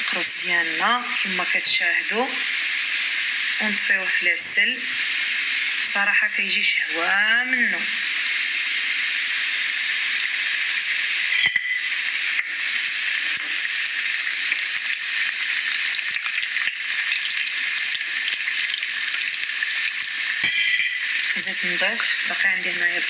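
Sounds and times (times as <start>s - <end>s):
pastry sizzling in hot oil: 0.0s - 23.0s.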